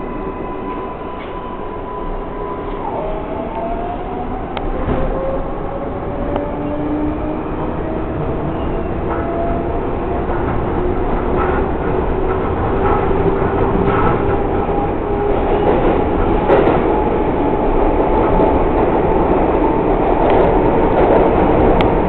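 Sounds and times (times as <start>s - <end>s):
subway train motors whining: 0.0s - 22.0s
wheels rumbling on rail: 0.0s - 22.0s.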